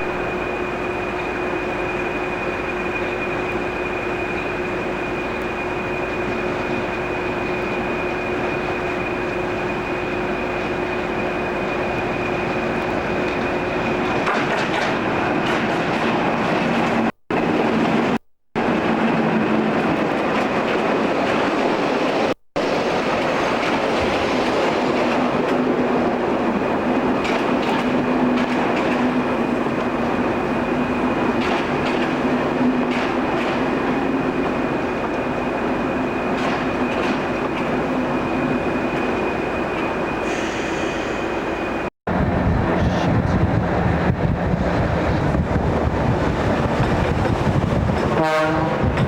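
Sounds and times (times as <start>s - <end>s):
diesel train running on rails: 0.0s - 49.0s.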